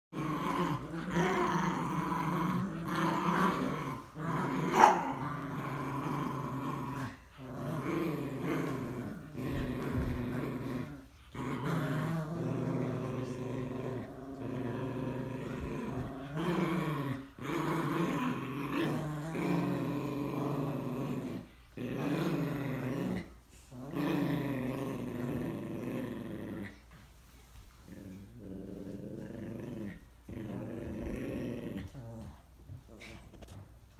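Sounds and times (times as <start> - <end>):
dogs growling in play: 0.1 - 33.9.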